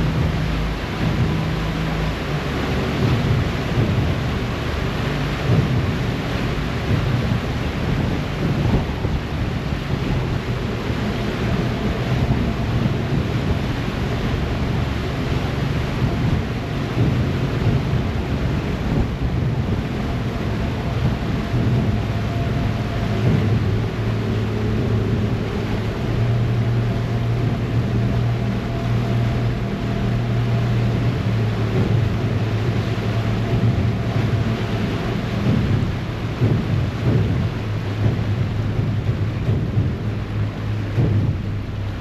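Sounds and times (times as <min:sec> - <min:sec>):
churning boat wake: 0:00.0 - 0:42.0
ferry engine drone: 0:00.0 - 0:42.0
wind buffeting microphone: 0:00.0 - 0:42.0.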